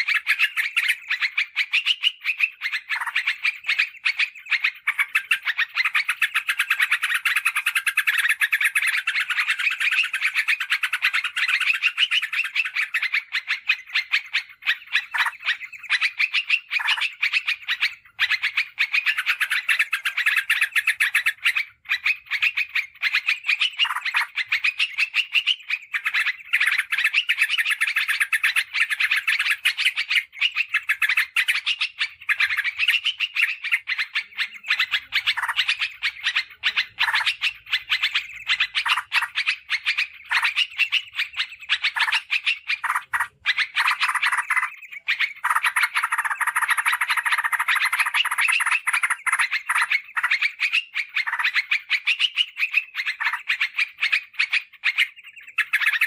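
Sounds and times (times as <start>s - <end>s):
birds chattering: 0.0s - 56.0s.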